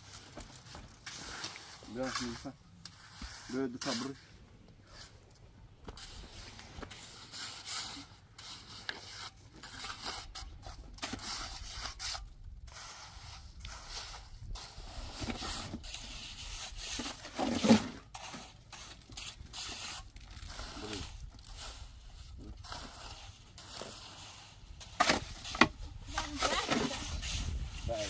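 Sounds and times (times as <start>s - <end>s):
scraping and rubbing strokes: 0.0s - 28.0s.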